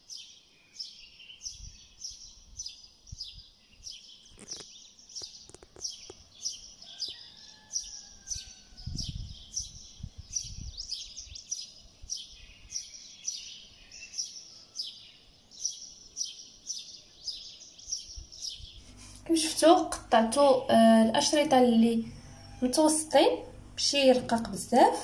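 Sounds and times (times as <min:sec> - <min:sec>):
small bird chirping: 0:00.0 - 0:24.5.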